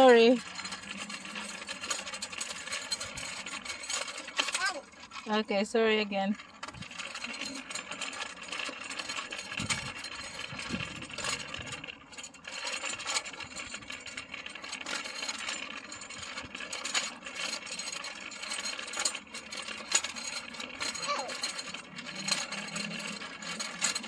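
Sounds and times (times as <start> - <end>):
rattling and clicking clatter: 0.0 - 24.0.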